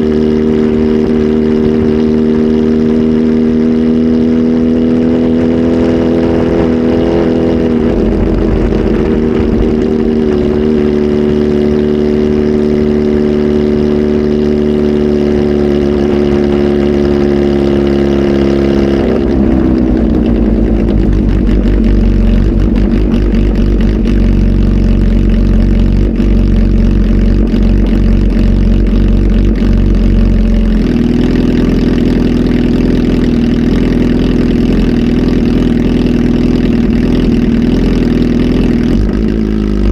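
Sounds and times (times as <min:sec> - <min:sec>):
motorcycle engine revving loud: 0:00.0 - 0:39.9.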